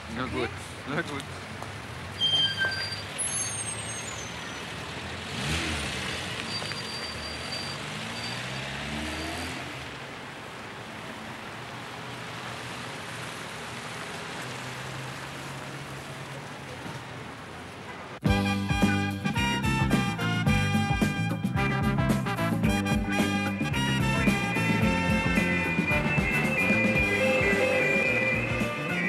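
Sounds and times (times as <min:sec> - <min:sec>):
traffic hum: 0:00.0 - 0:29.0
vehicle engine pulling away: 0:00.0 - 0:29.0.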